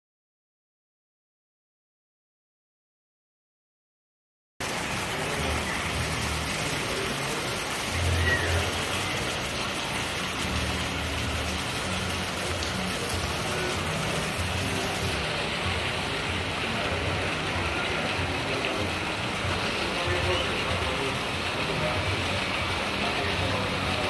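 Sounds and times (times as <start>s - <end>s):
steady rain hiss: 4.6s - 24.0s.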